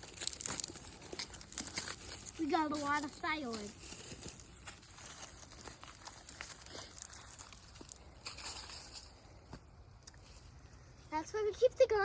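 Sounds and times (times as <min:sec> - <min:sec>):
rustling and crinkling: 0:00.0 - 0:10.7.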